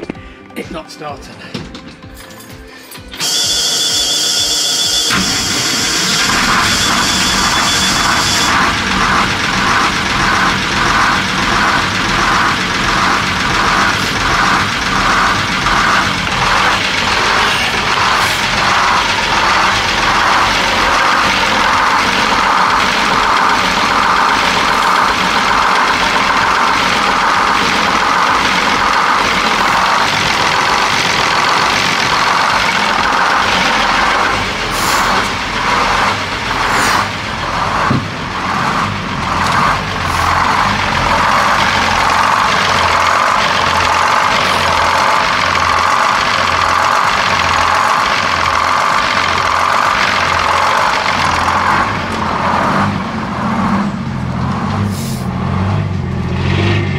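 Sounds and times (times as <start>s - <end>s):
diesel engine running: 3.1s - 56.9s.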